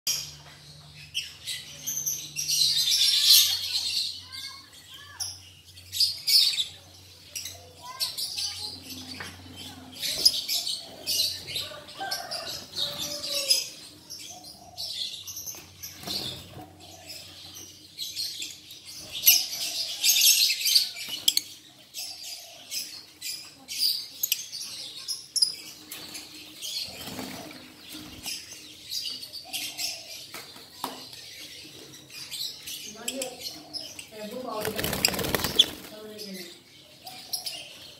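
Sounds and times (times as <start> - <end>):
lovebirds chattering: 0.1 - 37.9.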